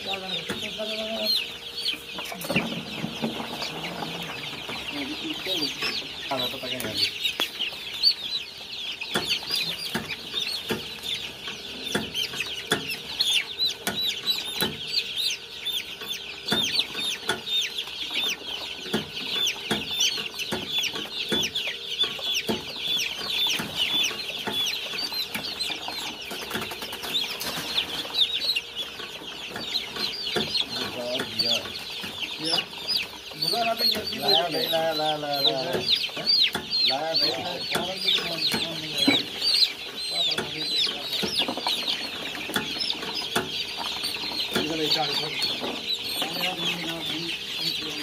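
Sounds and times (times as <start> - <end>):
chicks peeping: 0.0 - 48.0.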